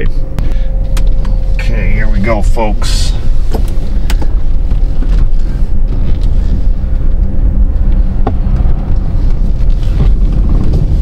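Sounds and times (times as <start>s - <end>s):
engine and road rumble: 0.0s - 11.0s
faint steady hum: 0.0s - 11.0s.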